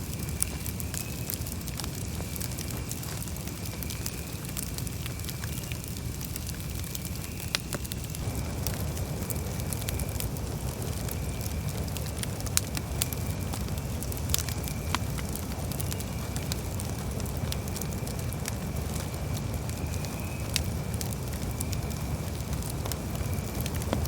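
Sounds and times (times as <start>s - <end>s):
burning wood crackling and popping: 0.0s - 24.0s
campfire flames rumbling: 0.0s - 24.0s.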